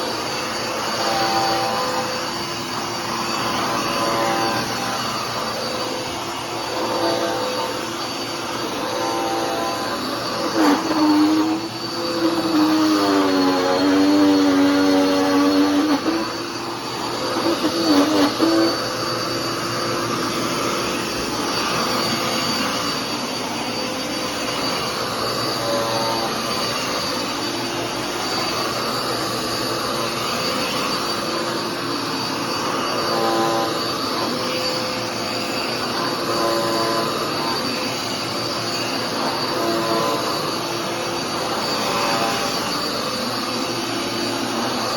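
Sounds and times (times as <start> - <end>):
vacuum cleaner whining: 0.0 - 44.9.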